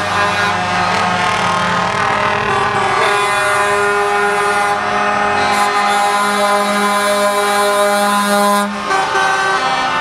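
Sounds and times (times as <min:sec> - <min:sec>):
truck air horn: 0:00.0 - 0:10.0.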